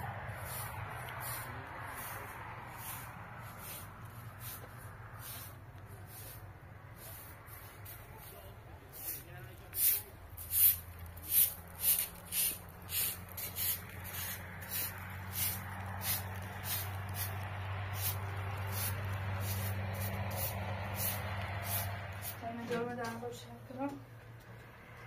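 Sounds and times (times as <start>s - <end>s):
hand broom sweeping dirt: 0.0s - 22.6s.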